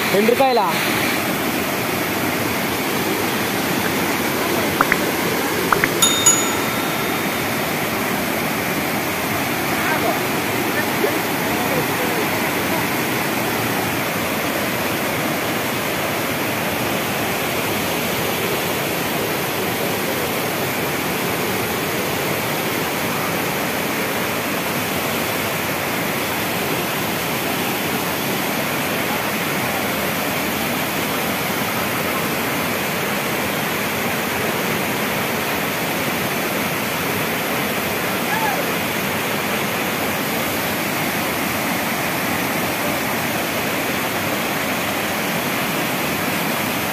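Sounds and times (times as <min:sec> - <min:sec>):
water cascading over dam: 0:00.1 - 0:46.9.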